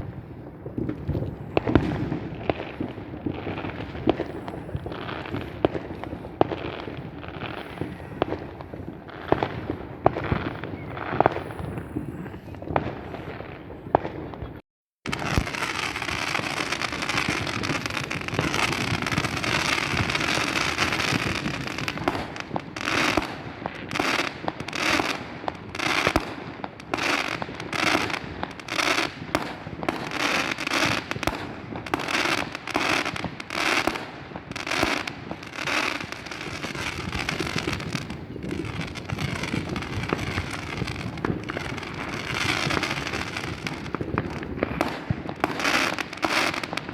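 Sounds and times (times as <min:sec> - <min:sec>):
fireworks crackling and banging: 0:00.0 - 0:46.9.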